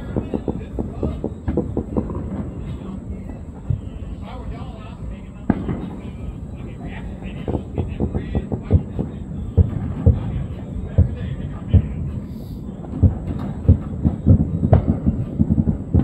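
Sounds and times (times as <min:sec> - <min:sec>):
distant fireworks banging: 0:00.0 - 0:16.0
faint voices: 0:00.0 - 0:16.0.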